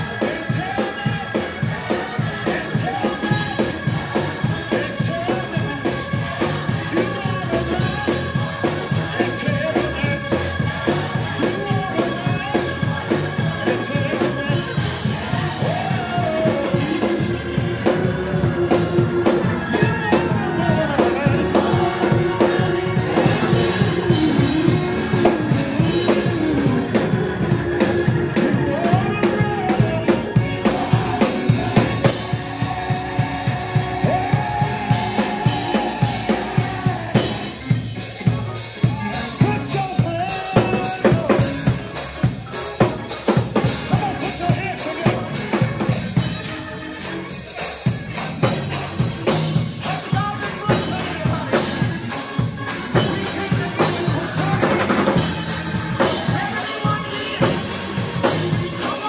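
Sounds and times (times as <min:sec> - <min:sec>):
choir singing gospel: 0:00.0 - 0:59.0
drum kit beat: 0:00.0 - 0:59.0
organ: 0:00.0 - 0:59.0.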